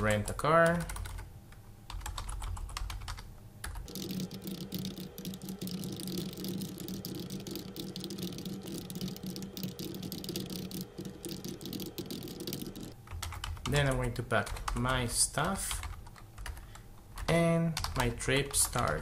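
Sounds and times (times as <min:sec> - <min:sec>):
rapid keyboard typing: 0:00.0 - 0:01.3, 0:01.9 - 0:19.0
steady low hum: 0:00.0 - 0:19.0.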